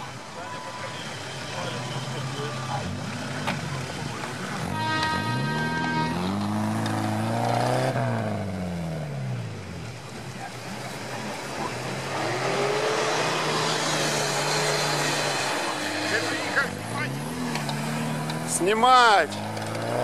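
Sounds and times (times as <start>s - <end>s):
off-road engine revving: 0.0s - 20.0s.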